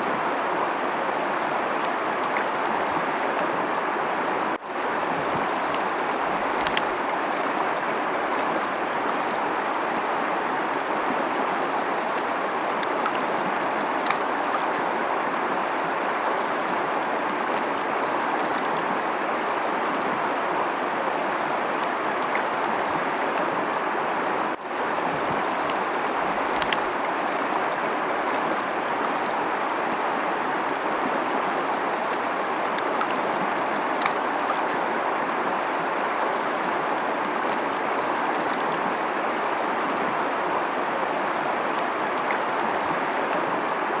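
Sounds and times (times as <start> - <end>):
small water splashes: 0.0 - 23.7, 24.3 - 44.0
river rushing: 0.0 - 44.0.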